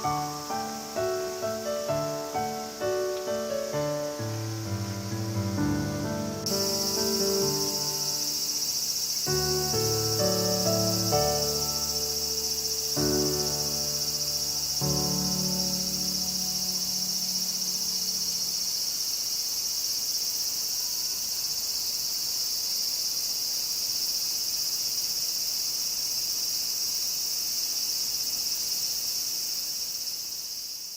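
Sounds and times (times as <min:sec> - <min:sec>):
insects chorus: 0:00.0 - 0:30.9.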